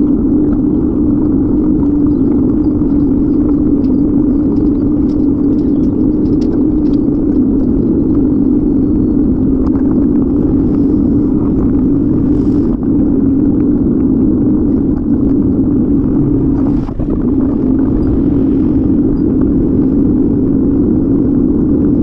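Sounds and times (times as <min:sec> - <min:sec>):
bicycle road rumble: 0:00.0 - 0:22.0
wind on microphone: 0:00.0 - 0:22.0.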